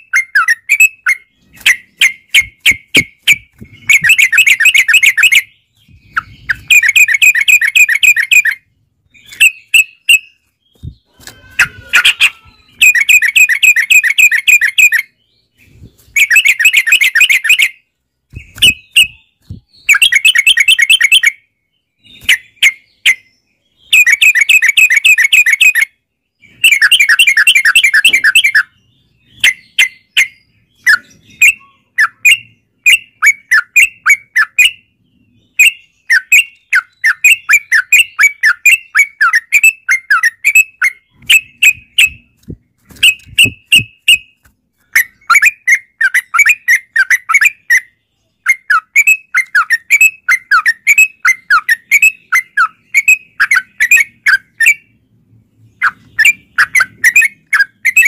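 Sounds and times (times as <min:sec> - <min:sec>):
bird chattering song: 0:00.0 - 0:58.0.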